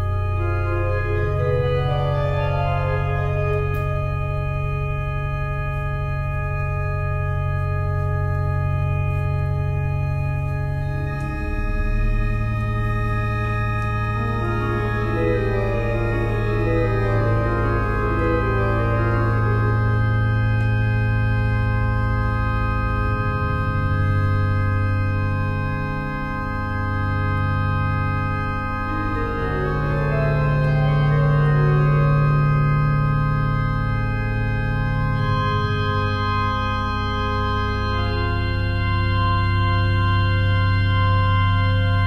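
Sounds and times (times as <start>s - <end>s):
electronic organ chords: 0.0s - 42.0s.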